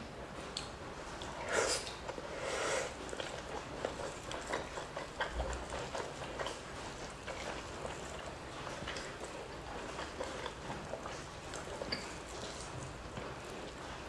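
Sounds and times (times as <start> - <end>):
chewing with lip smacking: 0.4 - 14.0.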